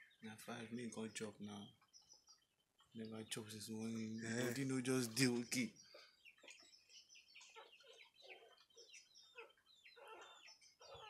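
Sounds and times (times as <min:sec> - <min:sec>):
small animals chirping and squeaking: 0:00.0 - 0:11.0.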